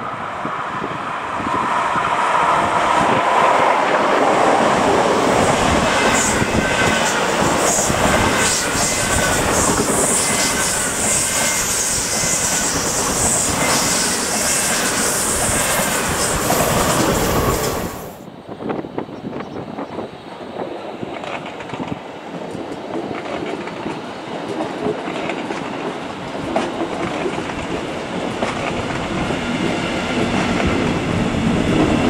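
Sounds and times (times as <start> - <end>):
wheels rushing on rail: 0.0 - 32.0.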